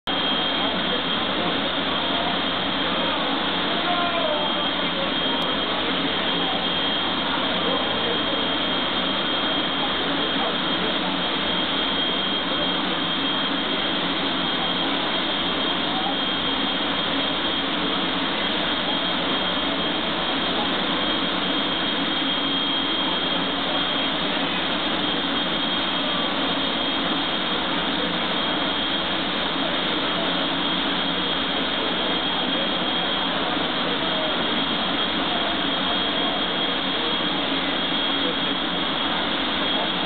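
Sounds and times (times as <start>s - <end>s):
jet turbine engine running: 0.1s - 40.0s.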